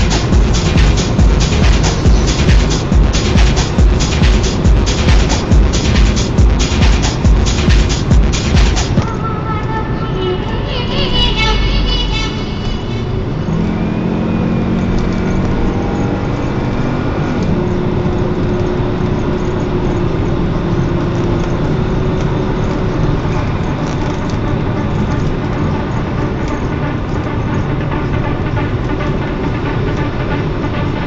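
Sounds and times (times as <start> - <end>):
car engine droning: 0.0 - 31.0
tyre and road noise: 0.0 - 31.0.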